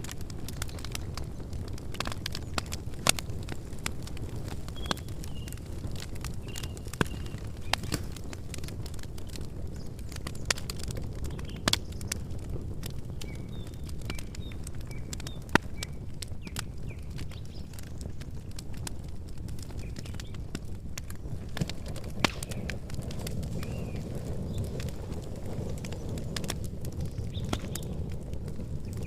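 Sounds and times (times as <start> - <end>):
campfire crackling and popping: 0.0 - 29.0
low rumble of flames: 0.0 - 29.0
small birds chirping: 0.2 - 2.8, 4.3 - 18.9, 19.6 - 29.0.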